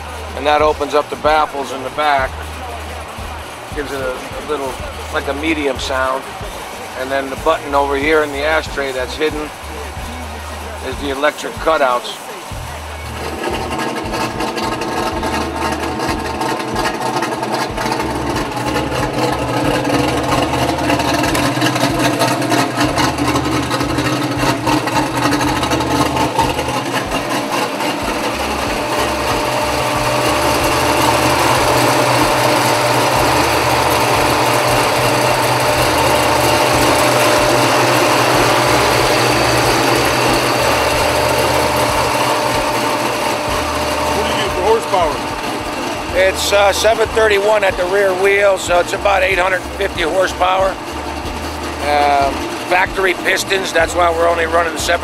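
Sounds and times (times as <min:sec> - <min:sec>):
sports car engine running: 0:00.0 - 0:55.0.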